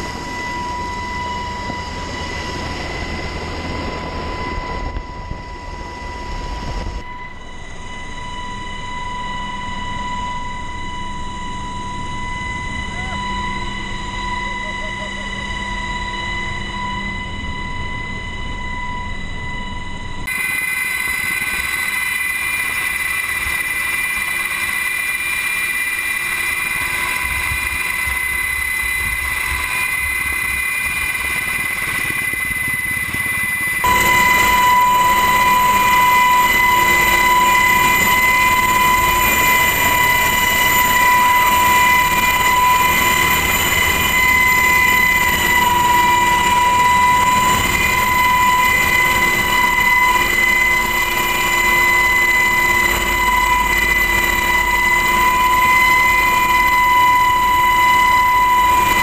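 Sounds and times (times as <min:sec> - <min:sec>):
helicopter cabin whine: 0:00.0 - 0:59.0.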